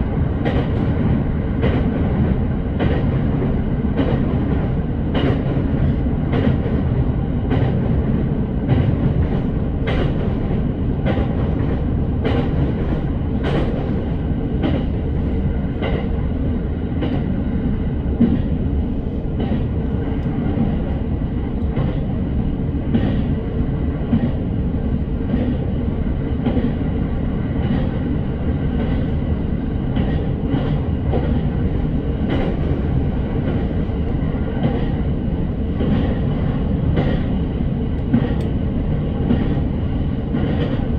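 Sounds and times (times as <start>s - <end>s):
rail joints clacking: 0.0s - 17.4s, 18.1s - 40.9s
train wheels rumbling on track: 0.0s - 40.9s.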